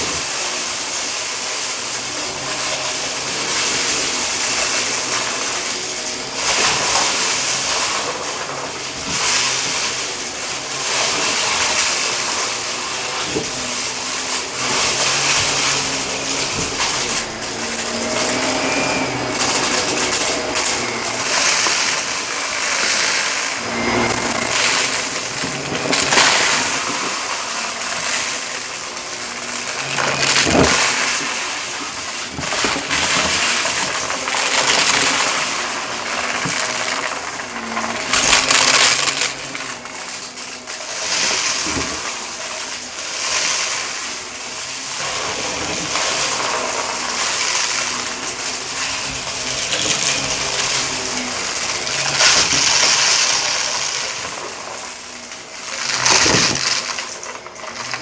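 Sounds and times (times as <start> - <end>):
debris clicking in vacuum: 0.0 - 58.0
vacuum cleaner on carpet: 0.0 - 58.0.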